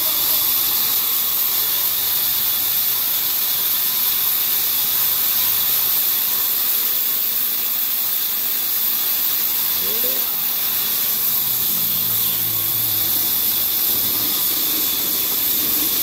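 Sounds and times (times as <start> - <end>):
band saw cutting log: 0.0 - 16.0.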